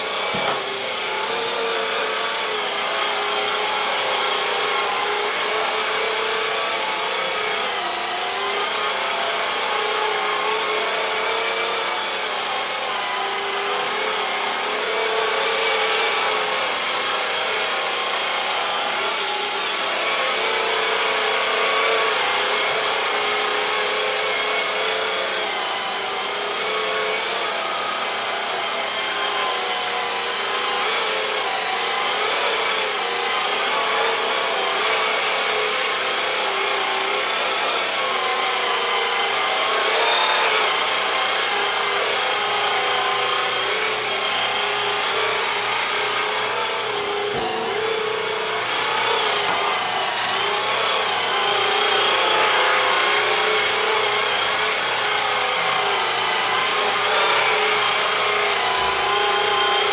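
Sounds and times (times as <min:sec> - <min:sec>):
sweeper motor and brushes whirring: 0:00.0 - 0:59.9.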